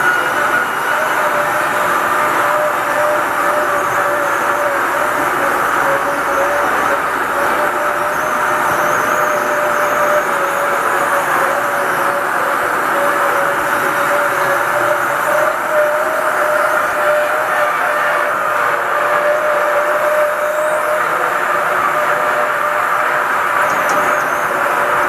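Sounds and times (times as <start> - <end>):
lift squealing: 0.0 - 18.3, 22.1 - 25.0
lift running noise: 0.0 - 25.0.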